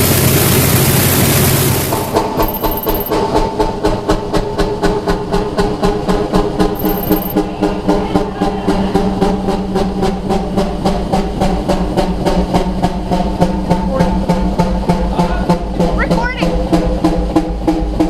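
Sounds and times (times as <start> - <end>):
large engine with exhaust knocks: 0.0 - 18.0.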